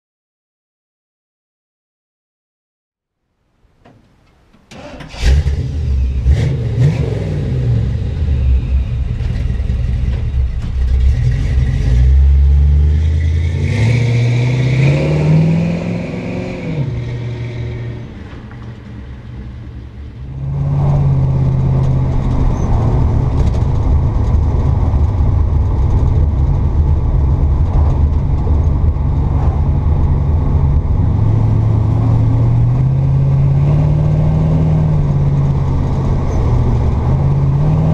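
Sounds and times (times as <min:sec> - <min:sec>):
truck engine revving: 0:04.8 - 0:18.7, 0:20.3 - 0:37.9.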